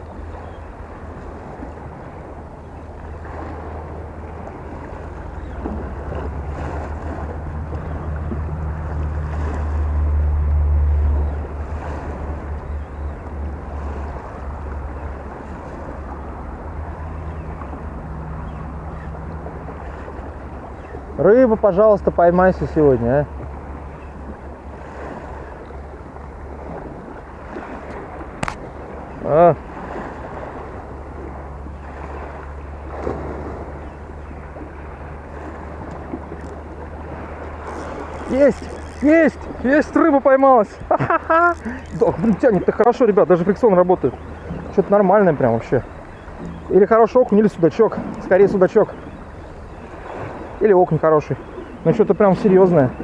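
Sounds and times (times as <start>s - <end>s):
wind rumbling on microphone: 0.0s - 50.6s
small waves washing: 0.0s - 53.0s.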